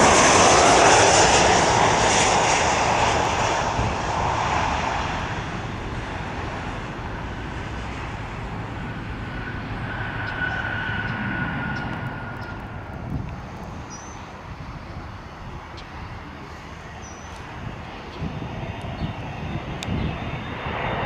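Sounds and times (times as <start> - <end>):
jet airliner engine rush: 0.0 - 21.0.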